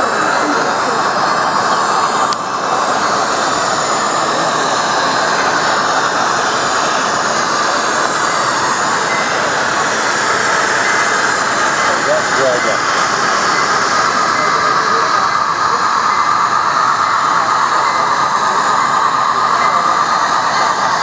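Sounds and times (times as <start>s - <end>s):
model steam locomotive running sound: 0.0s - 21.0s.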